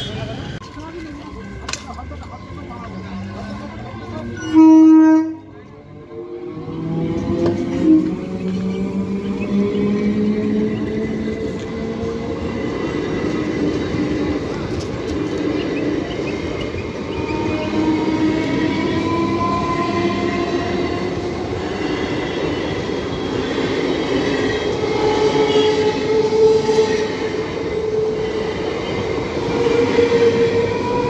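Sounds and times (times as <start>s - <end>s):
train wheels rumbling on rails: 5.2s - 31.0s.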